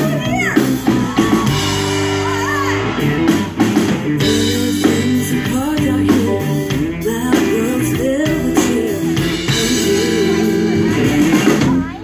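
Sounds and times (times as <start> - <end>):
electric guitar bending notes: 0.0 - 12.0
live rock band playing: 0.0 - 12.0
steady drum beat: 0.0 - 12.0.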